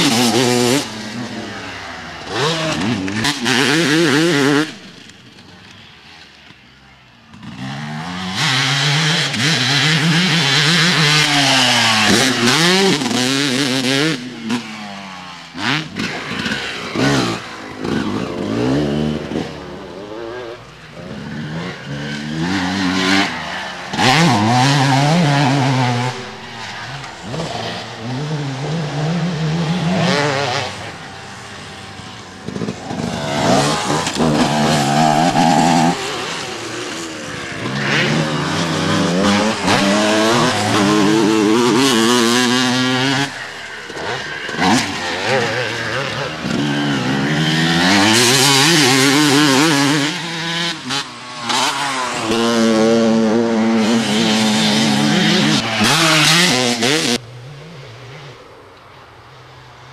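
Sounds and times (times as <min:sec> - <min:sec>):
motocross bike engine revving: 0:00.0 - 0:06.6, 0:07.3 - 0:58.4.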